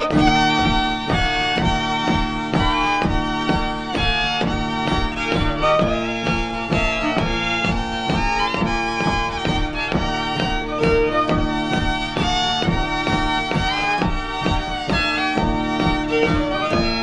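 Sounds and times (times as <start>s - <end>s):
solo fiddle tune: 0.0s - 17.0s.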